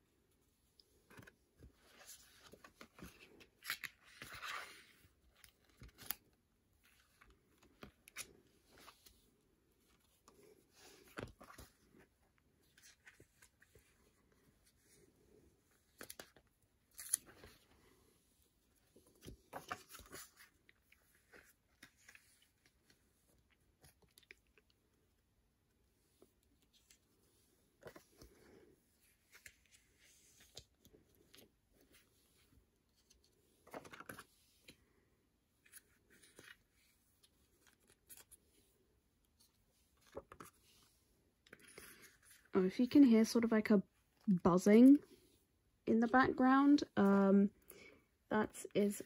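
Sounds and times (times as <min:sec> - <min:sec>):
plastic sleeves rustling: 0:00.6 - 0:45.3.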